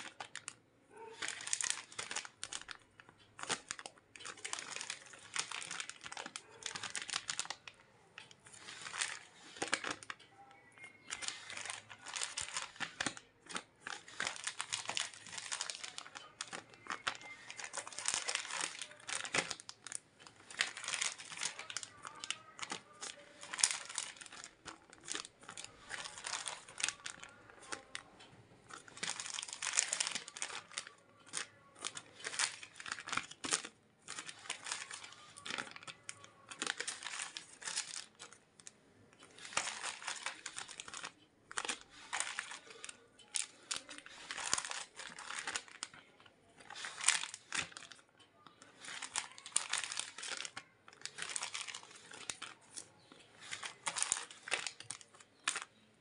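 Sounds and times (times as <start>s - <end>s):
plastic bags crinkling: 0.0s - 55.9s.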